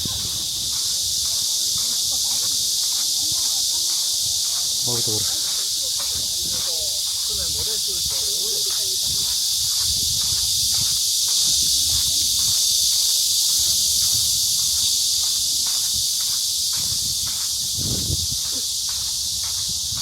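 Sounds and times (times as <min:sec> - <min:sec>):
cicada chorus drone: 0:00.0 - 0:20.0
soft footsteps: 0:00.0 - 0:20.0.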